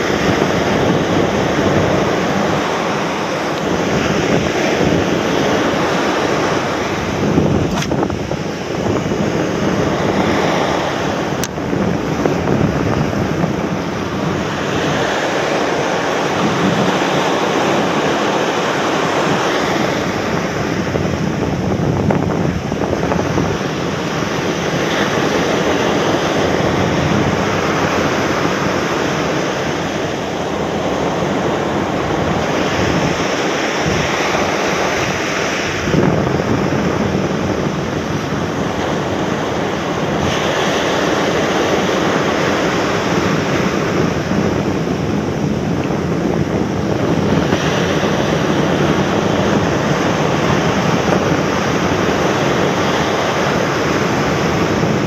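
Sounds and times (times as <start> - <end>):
surf washing up a beach: 0.0 - 55.0
wind buffeting microphone: 0.0 - 55.0.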